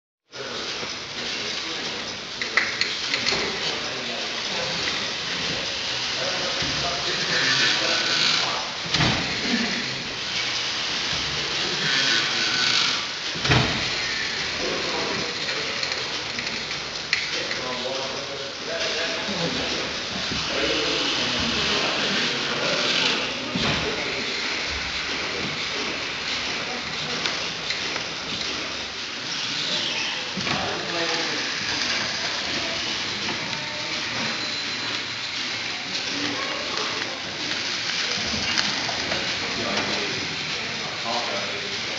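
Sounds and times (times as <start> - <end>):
steam engine machinery running: 0.4 - 41.9
steam hissing: 0.4 - 41.9.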